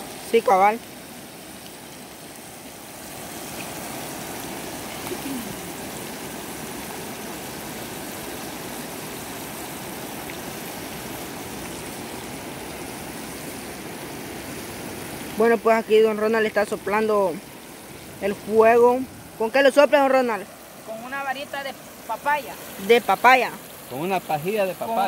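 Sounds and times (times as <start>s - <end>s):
shallow river rushing: 0.0s - 25.0s.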